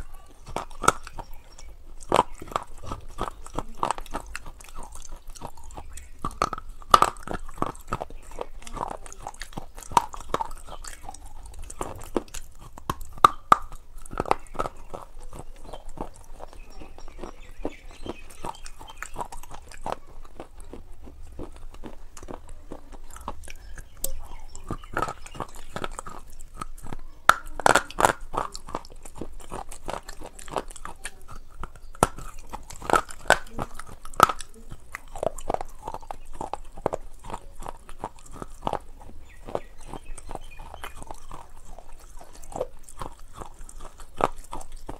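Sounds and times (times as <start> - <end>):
person chewing something crunchy: 0.0 - 44.9.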